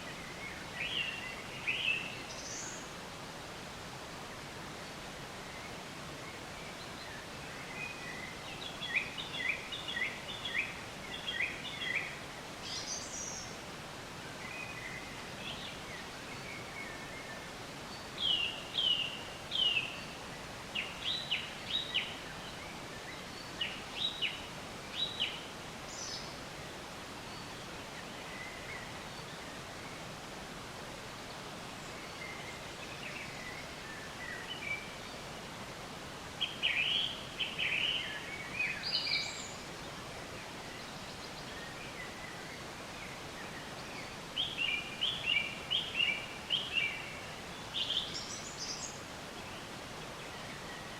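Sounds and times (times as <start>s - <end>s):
background hiss: 0.0s - 50.9s
songbirds chirping: 0.0s - 50.9s.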